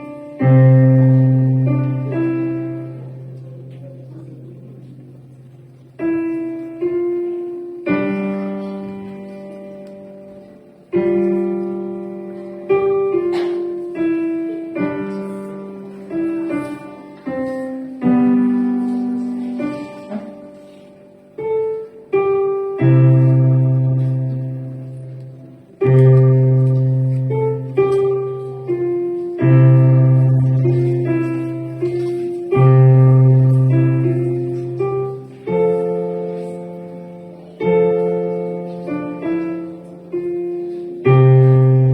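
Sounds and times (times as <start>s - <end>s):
low piano bass notes: 0.0s - 41.9s
piano melody: 0.0s - 41.9s.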